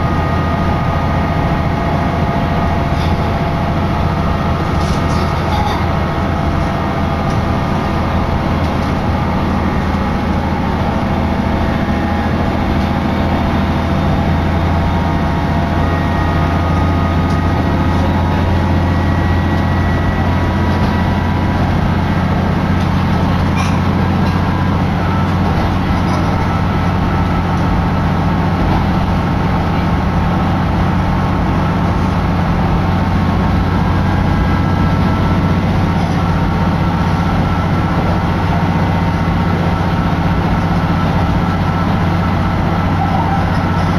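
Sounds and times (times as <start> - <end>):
diesel railcar engine drone: 0.0 - 43.9.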